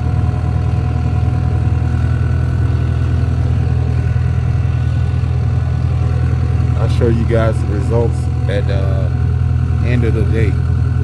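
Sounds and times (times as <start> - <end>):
bulldozer diesel engine idling: 0.0 - 11.0.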